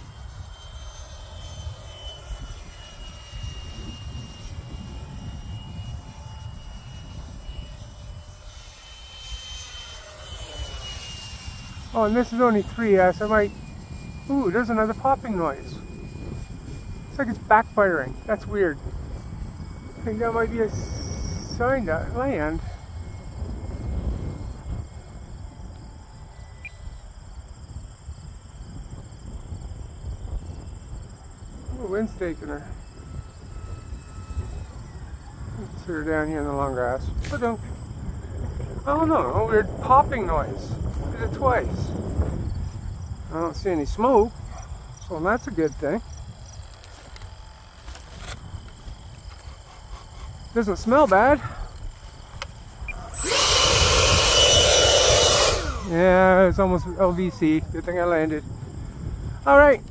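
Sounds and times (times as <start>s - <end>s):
high whine of model jet fan: 0.0s - 59.9s
wind buffeting microphone: 0.0s - 59.9s.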